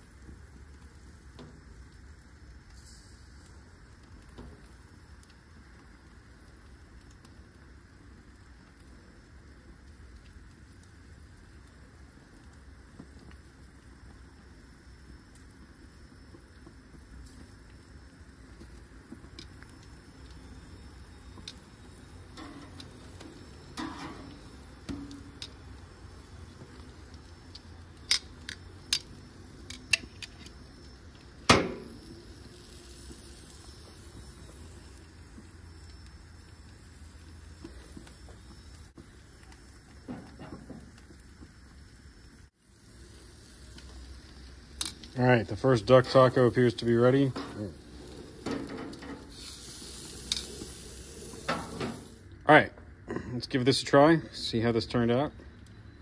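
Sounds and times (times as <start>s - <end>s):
grill hissing: 0.0s - 56.0s.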